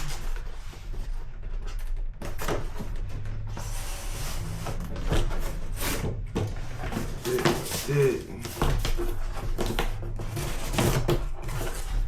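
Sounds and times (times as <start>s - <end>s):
cardboard packaging being handled: 0.0s - 12.0s.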